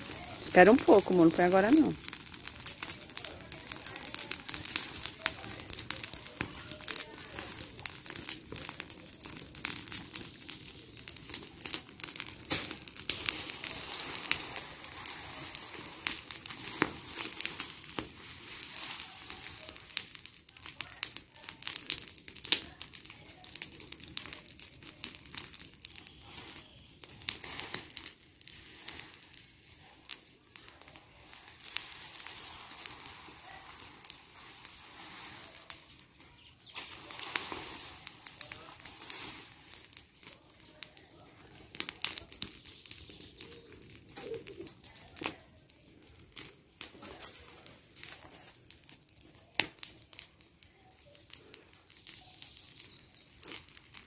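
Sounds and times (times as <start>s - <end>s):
branches burning and crackling: 0.0s - 54.0s
fire hissing: 0.0s - 54.0s.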